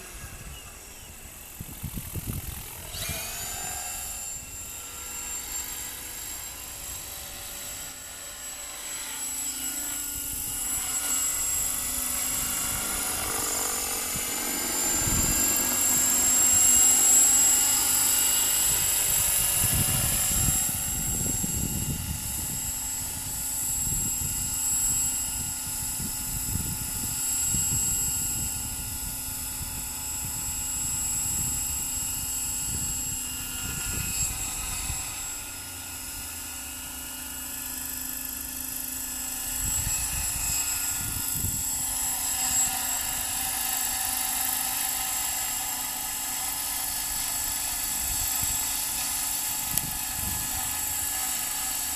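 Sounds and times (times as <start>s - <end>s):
model helicopter whine: 0.0s - 51.9s.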